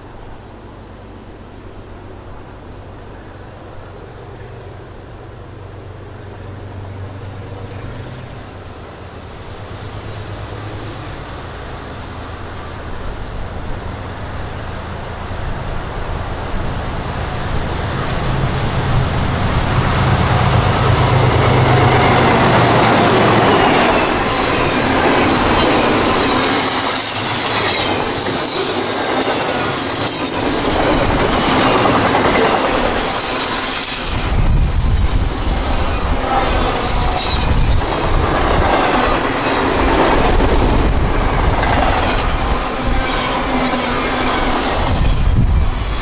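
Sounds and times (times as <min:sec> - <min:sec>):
diesel locomotive engine rumble: 0:00.0 - 0:46.0
wheels on rail: 0:00.0 - 0:46.0.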